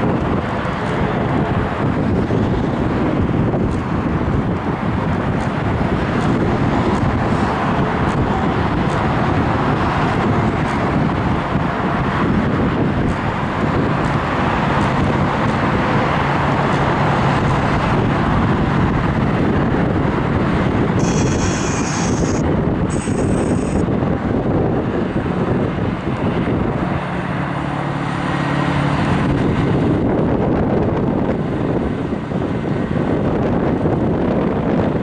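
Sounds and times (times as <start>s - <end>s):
jet engines roaring: 0.0s - 35.0s
wind buffeting microphone: 0.0s - 35.0s.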